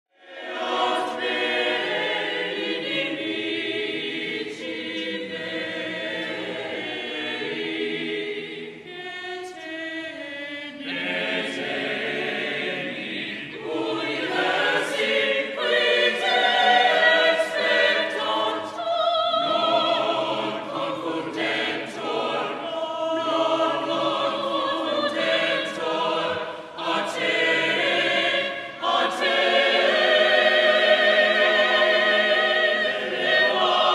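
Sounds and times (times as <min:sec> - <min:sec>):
choir singing sacred music: 0:00.1 - 0:33.9.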